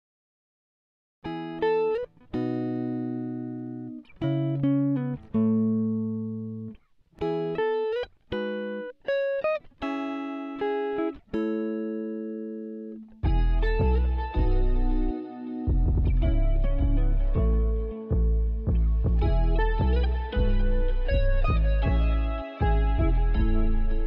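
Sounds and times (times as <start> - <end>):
slow plucked melody: 1.3 - 24.0.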